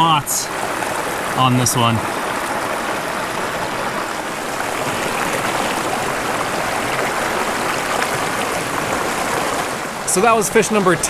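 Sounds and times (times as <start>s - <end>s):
small stream flowing: 0.0s - 11.0s.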